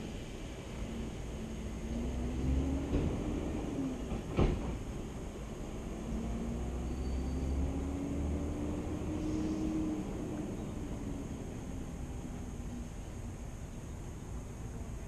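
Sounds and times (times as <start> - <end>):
distant engine drone: 0.8 - 15.0.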